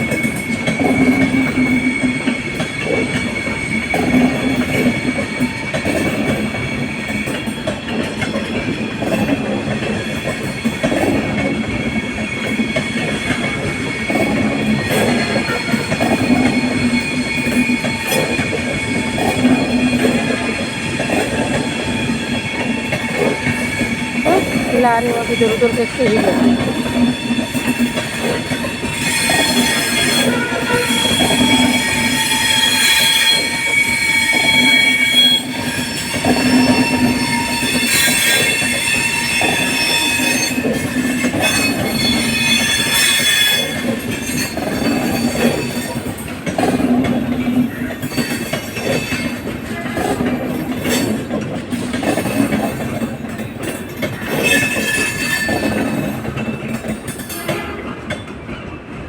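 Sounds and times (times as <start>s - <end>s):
low train rumble: 0.0s - 59.0s
train wheels squealing: 0.0s - 59.0s.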